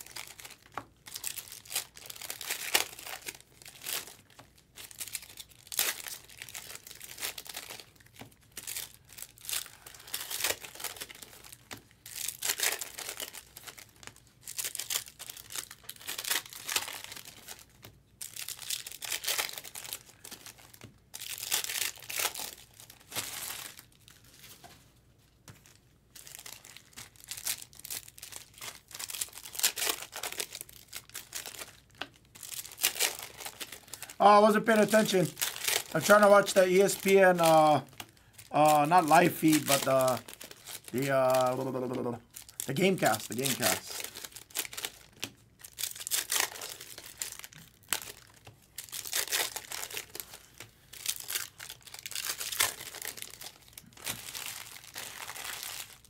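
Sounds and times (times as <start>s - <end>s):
plastic wrappers crinkling and tearing: 0.0s - 56.0s.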